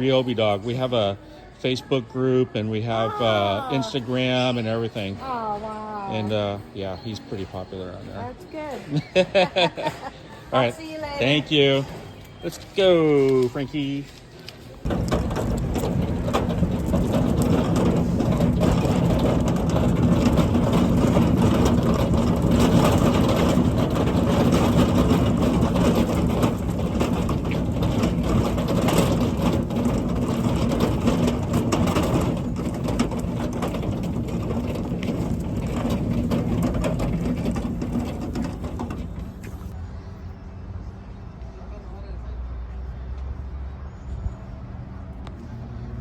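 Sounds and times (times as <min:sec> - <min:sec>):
shopping cart wheels rattling: 0:00.0 - 0:02.0, 0:02.6 - 0:14.2, 0:14.8 - 0:39.8.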